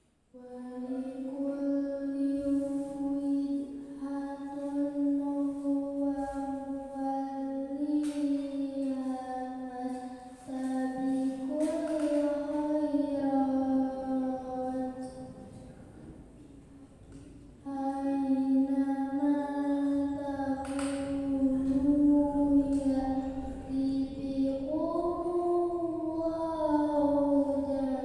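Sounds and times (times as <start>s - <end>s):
girl reciting melodically: 0.3s - 15.7s, 16.5s - 28.0s.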